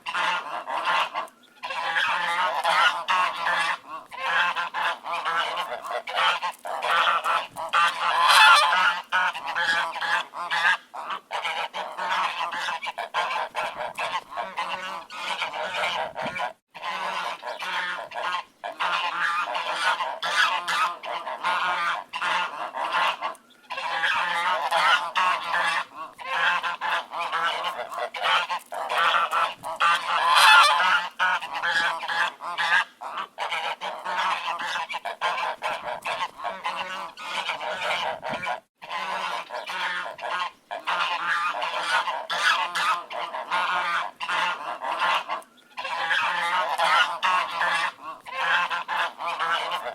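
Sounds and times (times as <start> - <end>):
ducks quacking: 0.0 - 49.9.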